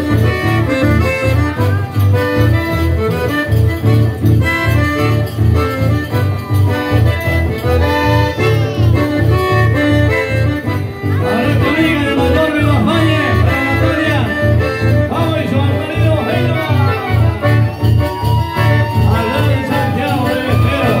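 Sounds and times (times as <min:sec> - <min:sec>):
button accordion folk tune: 0:00.0 - 0:21.0
guitar accompaniment: 0:00.0 - 0:21.0.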